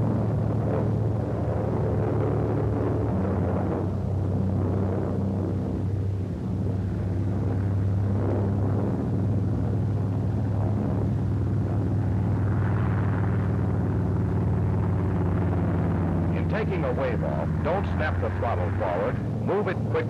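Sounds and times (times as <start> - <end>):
radial aircraft engine droning: 0.0 - 20.0.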